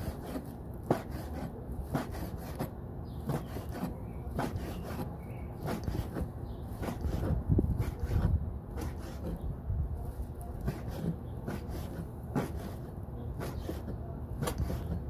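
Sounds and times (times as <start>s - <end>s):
blade rasping through skin: 0.0s - 9.4s, 10.6s - 15.0s.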